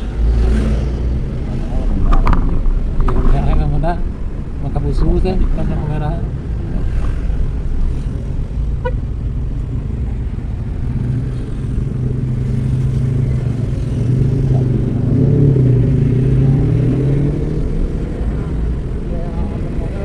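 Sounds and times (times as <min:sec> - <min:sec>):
vehicle engine and road drone: 0:00.0 - 0:20.0.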